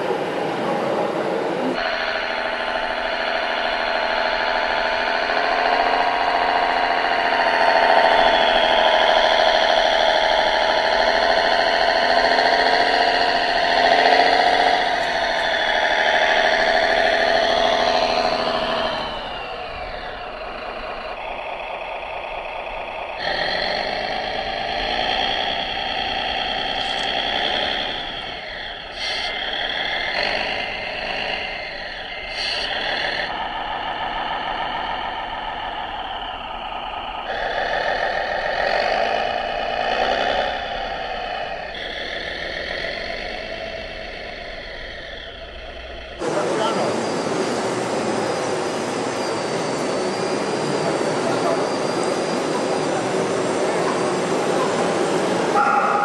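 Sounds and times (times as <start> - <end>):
model tractor mechanical drone: 0.0 - 56.0.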